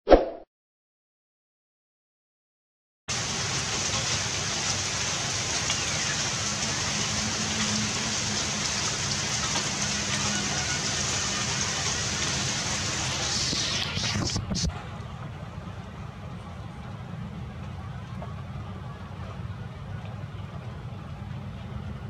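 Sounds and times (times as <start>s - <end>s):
rain on wet paving and puddles: 3.1s - 22.0s.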